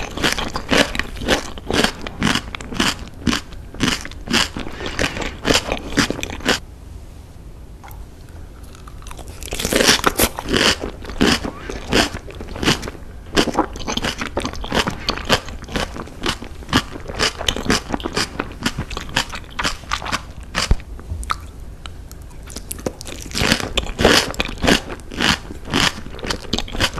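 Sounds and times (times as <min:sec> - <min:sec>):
crunchy chewing: 0:00.0 - 0:06.6, 0:08.6 - 0:26.9.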